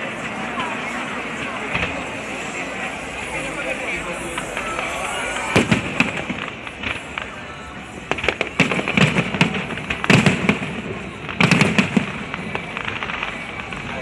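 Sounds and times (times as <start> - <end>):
fireworks bursting with sharp bangs: 0.0 - 14.0.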